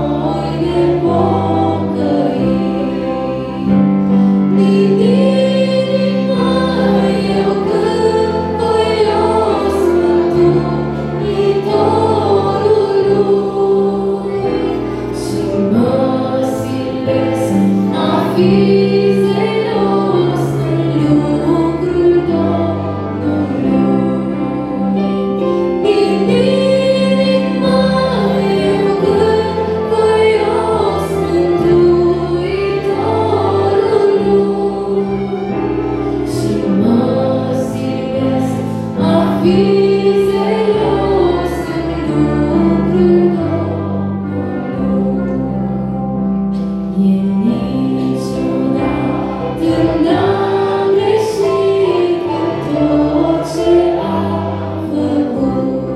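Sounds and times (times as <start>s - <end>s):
held accompaniment chords: 0.0s - 55.9s
woman singing a hymn: 0.0s - 55.9s.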